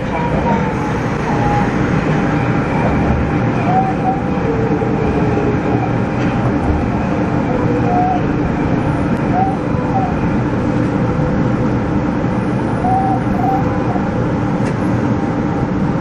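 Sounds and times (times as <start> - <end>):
subway train running on rails: 0.0 - 16.0.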